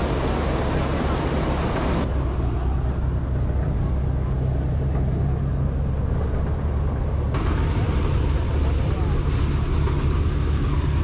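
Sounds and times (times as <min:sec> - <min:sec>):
threshing machine engine humming: 0:00.0 - 0:11.0.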